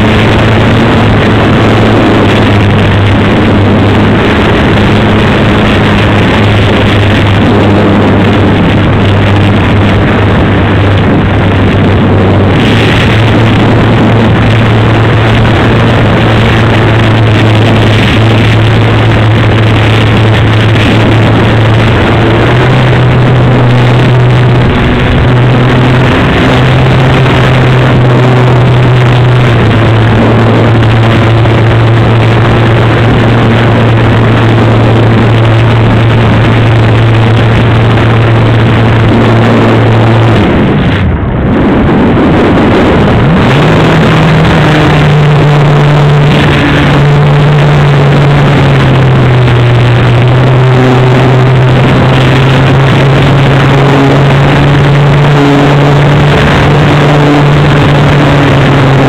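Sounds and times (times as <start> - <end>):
electric motor and propeller drone: 0.0 - 59.0
rush of air: 0.0 - 59.0.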